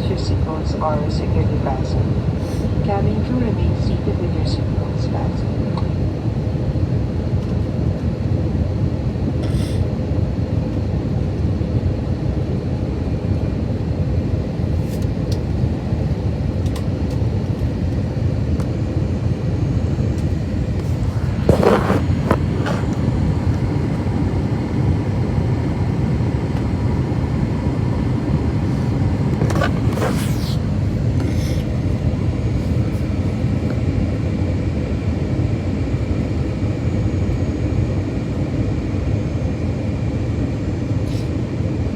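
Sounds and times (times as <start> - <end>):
aircraft cabin engine rumble: 0.0 - 41.9.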